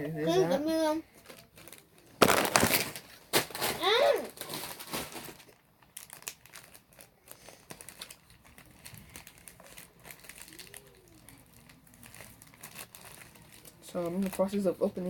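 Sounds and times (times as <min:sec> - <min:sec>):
plastic packaging crinkling: 0:01.1 - 0:15.0.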